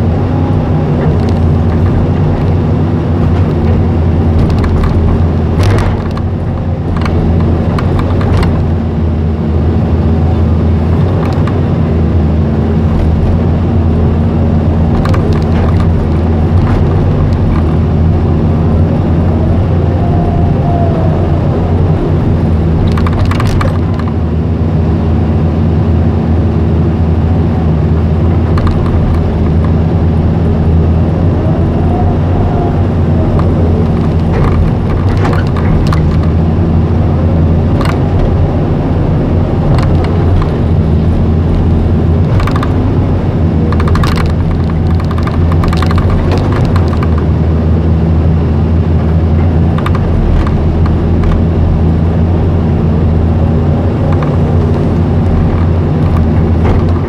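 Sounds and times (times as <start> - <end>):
engine whine: 0.0 - 57.0
excavator diesel engine running: 0.0 - 57.0.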